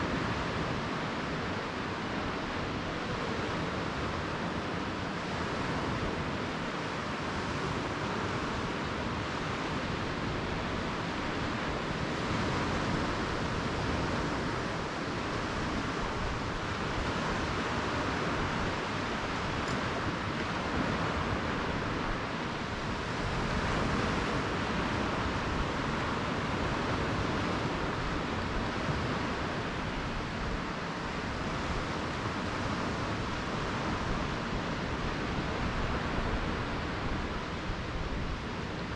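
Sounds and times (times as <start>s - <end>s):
surf washing up beach: 0.0s - 38.9s.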